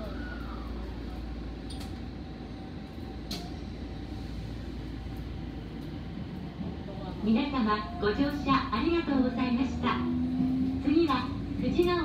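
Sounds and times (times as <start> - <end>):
subway train low rumble: 0.0 - 12.0.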